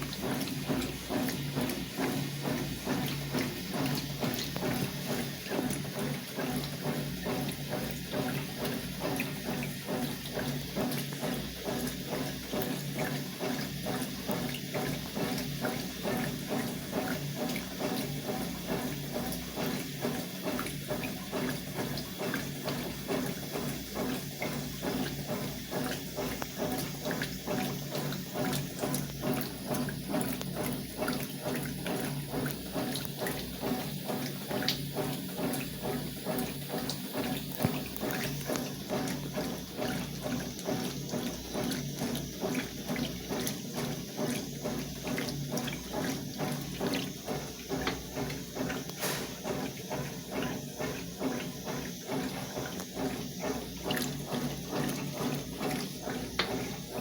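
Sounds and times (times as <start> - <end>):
water sloshing in washing machine: 0.0 - 57.0.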